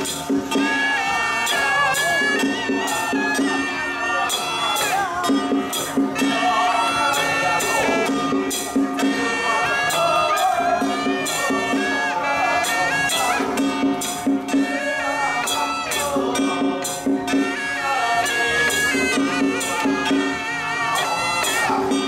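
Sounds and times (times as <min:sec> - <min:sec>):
suona playing sliding melody: 0:00.0 - 0:22.0.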